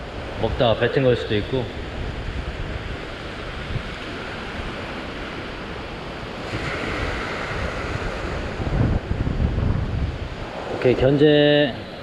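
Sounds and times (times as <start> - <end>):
ocean surf washing over rocks: 0.0 - 12.0
wind rumbling on microphone: 0.0 - 12.0.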